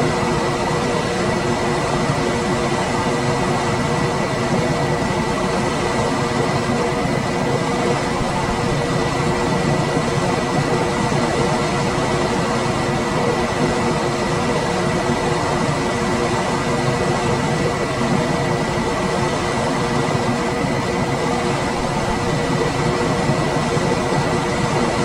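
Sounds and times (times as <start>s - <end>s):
faint steady whine: 0.0s - 25.0s
fan air rushing: 0.0s - 25.0s.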